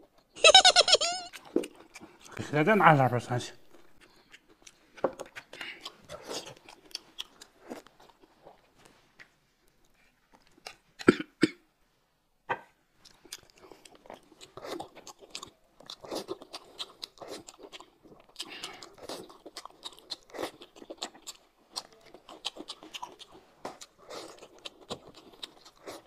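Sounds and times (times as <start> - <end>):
close chewing: 0.0 - 3.0, 3.6 - 11.1, 13.0 - 26.0.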